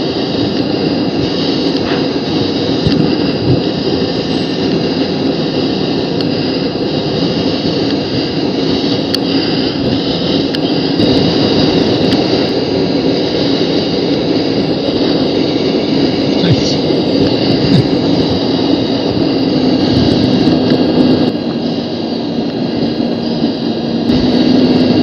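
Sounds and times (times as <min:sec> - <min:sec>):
jet engine from cockpit: 0:00.0 - 0:25.0
rushing air: 0:00.0 - 0:25.0.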